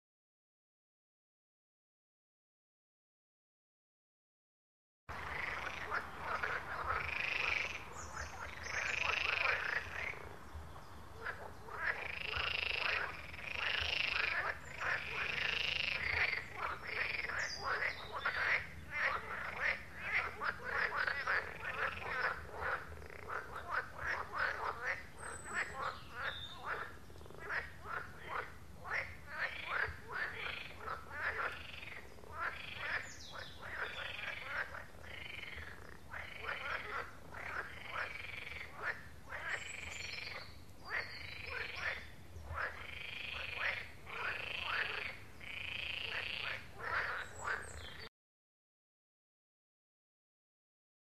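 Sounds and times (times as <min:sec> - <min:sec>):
frogs croaking: 0:05.1 - 0:10.5, 0:11.2 - 0:48.1.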